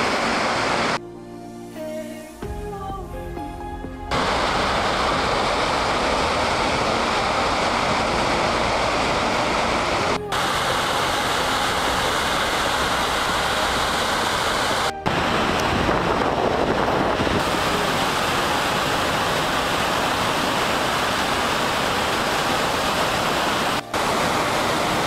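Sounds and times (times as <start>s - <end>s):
waterfall rushing: 0.0s - 1.6s, 4.1s - 25.0s.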